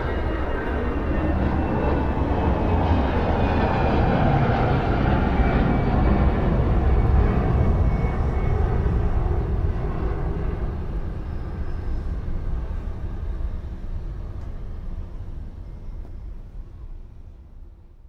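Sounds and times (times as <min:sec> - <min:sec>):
jet engines rumbling: 0:00.0 - 0:17.6.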